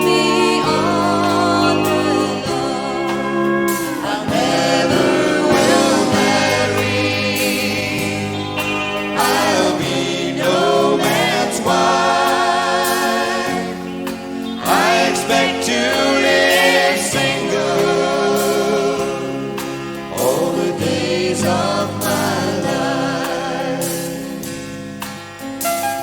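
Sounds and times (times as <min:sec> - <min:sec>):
voices singing in harmony: 0:00.0 - 0:25.5
country band playing live: 0:00.0 - 0:26.0
pedal steel guitar: 0:00.0 - 0:26.0.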